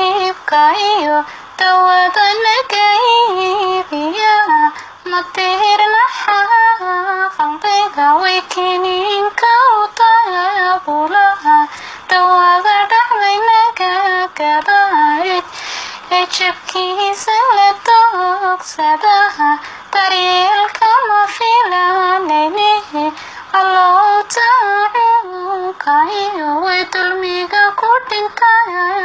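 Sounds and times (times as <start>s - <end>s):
boy singing in high voice: 0.0s - 29.0s.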